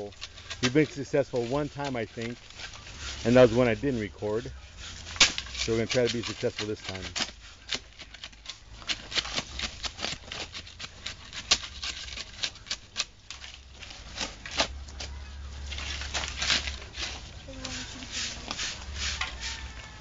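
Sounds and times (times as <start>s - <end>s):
shovels scraping gravel mix: 0.0s - 20.0s.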